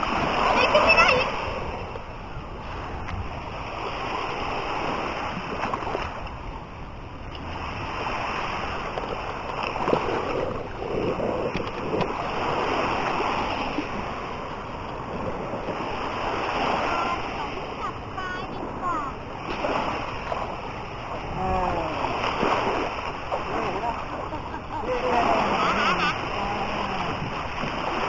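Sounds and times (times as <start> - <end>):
sea waves washing onto beach: 0.0 - 28.0.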